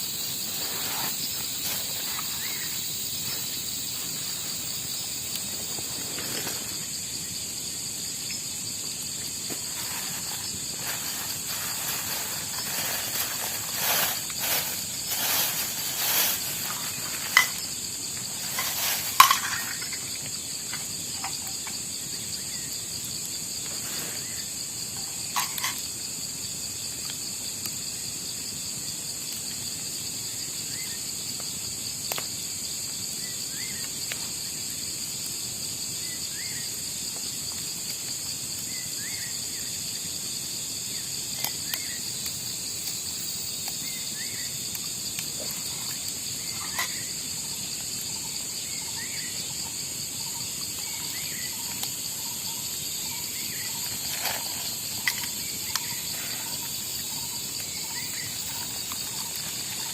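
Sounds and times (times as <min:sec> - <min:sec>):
crickets and insects chirring: 0:00.0 - 0:59.9.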